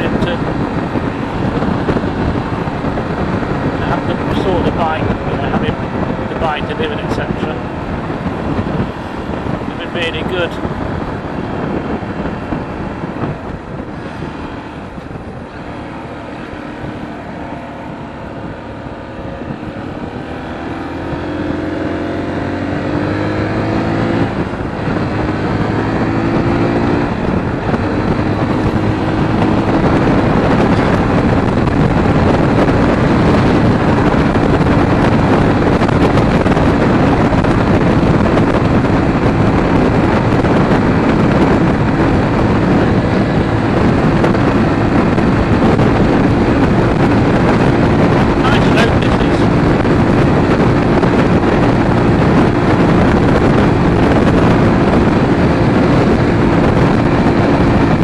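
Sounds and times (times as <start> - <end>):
motorcycle engine accelerating: 0.0 - 58.0
wind on microphone: 0.0 - 58.0.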